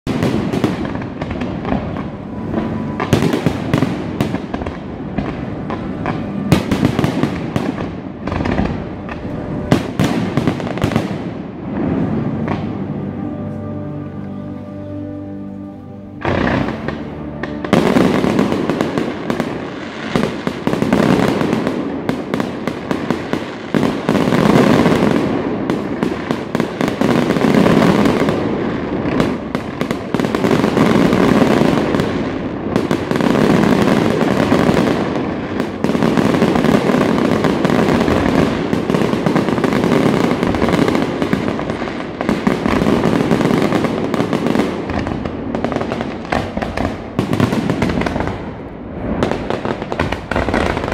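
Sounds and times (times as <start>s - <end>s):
fireworks bangs and crackles: 0.0s - 13.2s, 16.2s - 50.9s.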